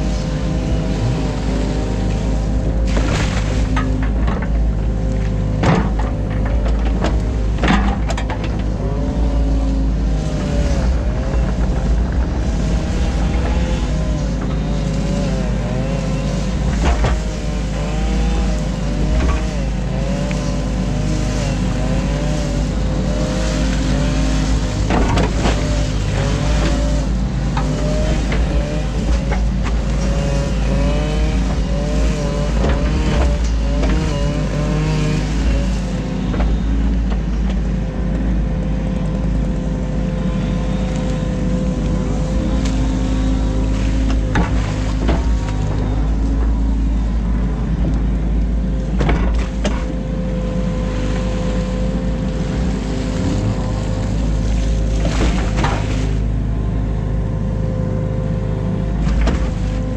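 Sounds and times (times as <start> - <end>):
diesel engine running: 0.0 - 59.9
hydraulics whining: 0.0 - 59.9.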